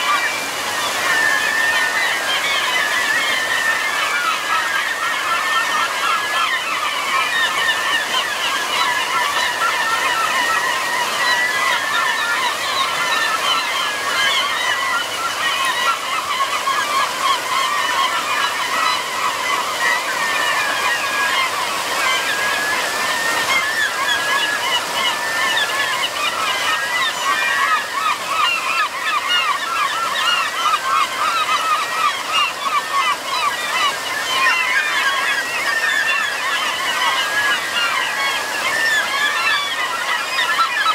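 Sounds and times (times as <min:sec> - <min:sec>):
flock of gulls calling: 0:00.0 - 0:40.9
stream rapids rushing: 0:00.0 - 0:40.9.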